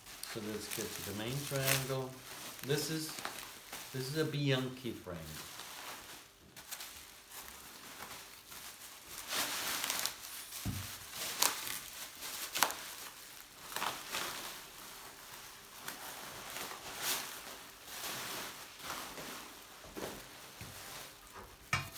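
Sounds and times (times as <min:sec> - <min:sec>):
rustling handling noise: 0:00.0 - 0:21.9.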